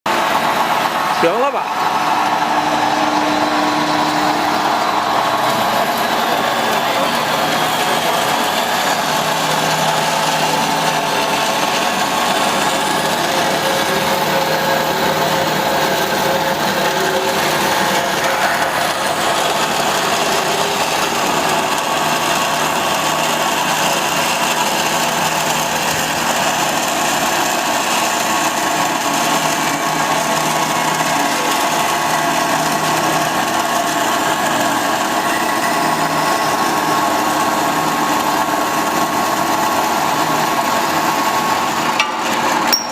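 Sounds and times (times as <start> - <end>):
band saw machine running: 0.1 - 42.9.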